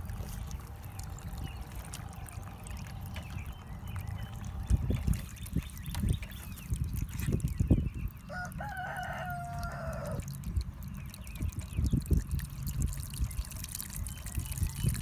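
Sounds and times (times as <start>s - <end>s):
steady low rumble: 0.0s - 15.0s
water trickling through a tube: 0.0s - 15.0s.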